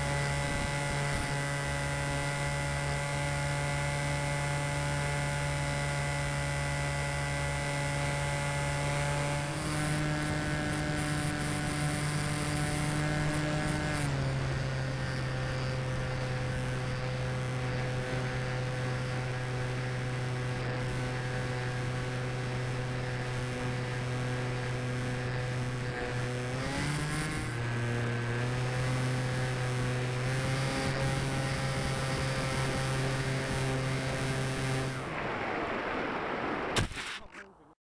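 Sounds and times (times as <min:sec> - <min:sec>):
model plane motor humming: 0:00.0 - 0:35.2.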